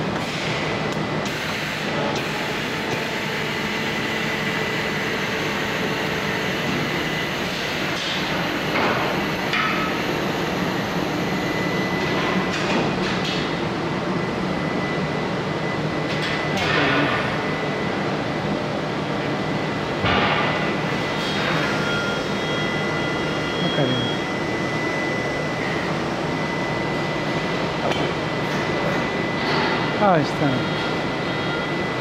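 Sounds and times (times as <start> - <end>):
machine drone with high whine: 0.0 - 32.0.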